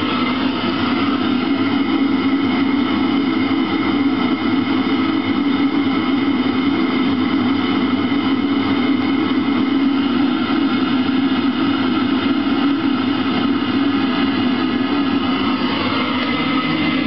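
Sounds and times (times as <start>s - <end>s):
water heater blower rushing hum: 0.0s - 17.0s.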